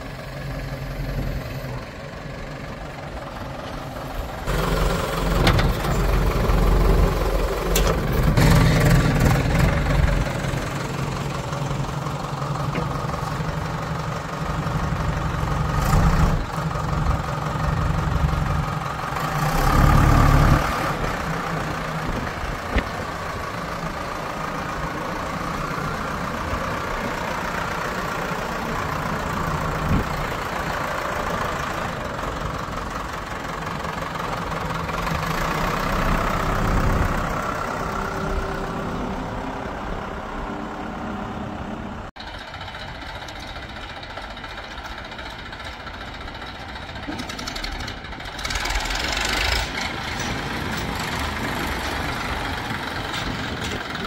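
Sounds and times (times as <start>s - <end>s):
diesel engine of heavy machinery: 0.0s - 54.0s.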